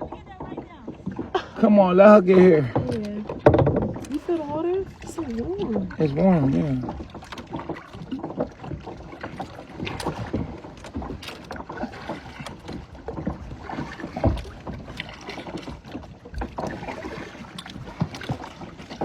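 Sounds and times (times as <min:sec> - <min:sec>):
paddles splashing in water: 0:00.0 - 0:19.0.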